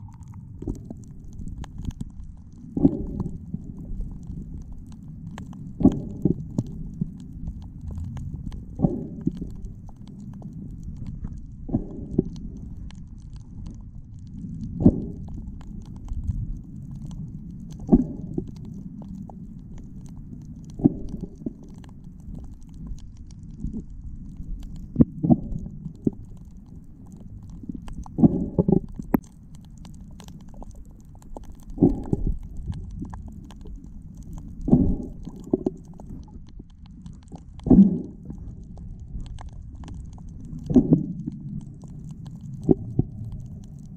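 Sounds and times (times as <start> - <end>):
faint scattered clicks: 0.0 - 43.9
faint ticks: 0.0 - 43.9
underwater low rumble: 0.0 - 43.9
underwater low rush: 0.0 - 43.9.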